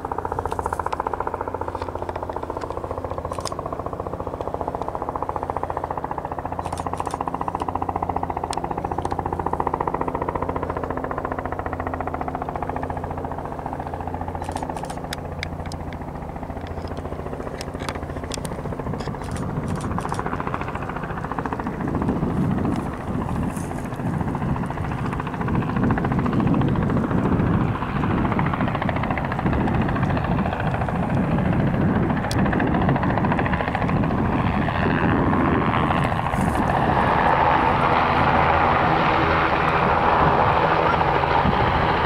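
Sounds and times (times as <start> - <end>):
helicopter engine drone: 0.0 - 42.0
helicopter rotor beat: 0.0 - 42.0.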